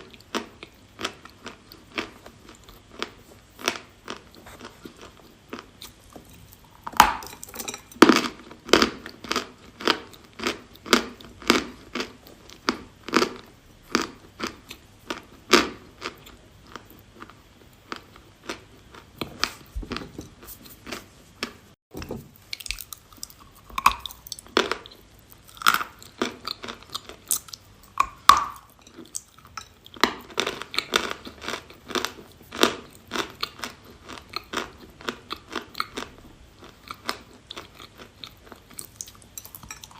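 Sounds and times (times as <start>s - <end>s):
chalk crunching while chewed: 0.0s - 21.6s, 22.4s - 39.9s.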